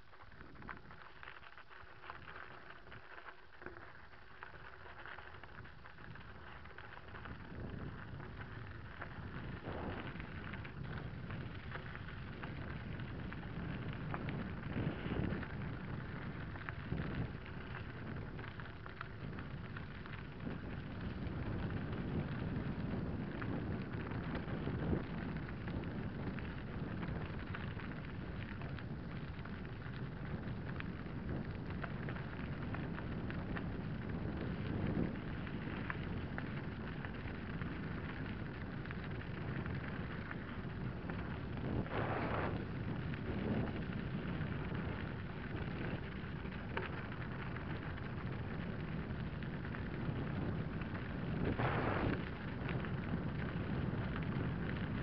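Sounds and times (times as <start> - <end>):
bike jolts over bumps: 0.0 - 55.0
bike rattling: 0.0 - 55.0
bike tyres crunching on gravel: 0.0 - 55.0.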